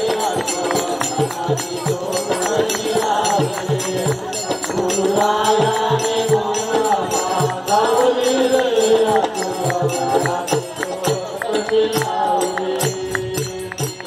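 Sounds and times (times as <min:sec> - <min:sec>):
group singing devotional song: 0:00.0 - 0:13.8
sharp metallic ticks: 0:00.0 - 0:14.0.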